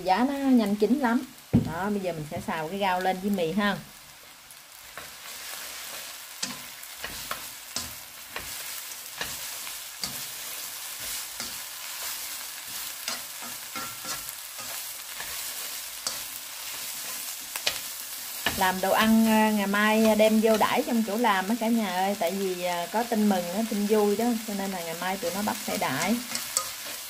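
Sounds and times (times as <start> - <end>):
noodles sizzling in a wok: 0.0 - 27.0.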